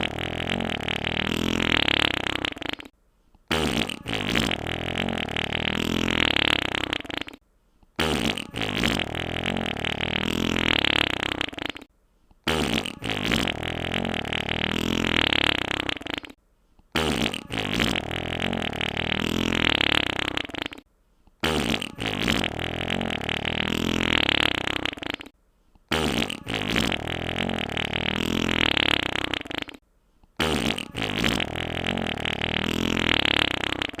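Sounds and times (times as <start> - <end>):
wet fart sound effect: 0.0 - 2.9, 3.5 - 7.4, 8.0 - 29.8, 30.4 - 34.0.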